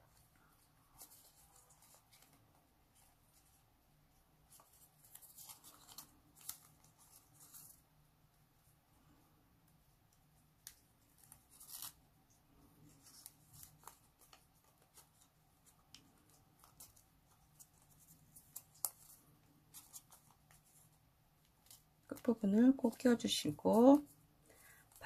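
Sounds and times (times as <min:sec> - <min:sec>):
paper crinkling and rustling: 0:00.0 - 0:08.6, 0:09.8 - 0:24.2.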